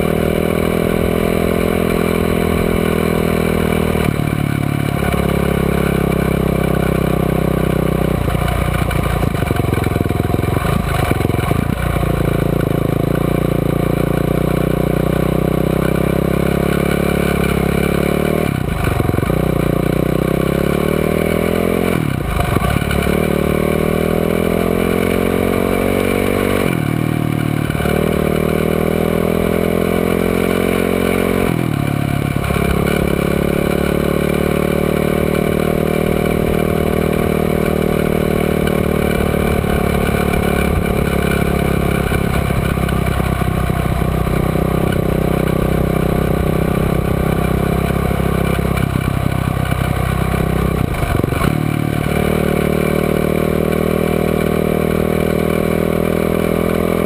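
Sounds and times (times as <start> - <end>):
quad bike engine accelerating: 0.0 - 57.0.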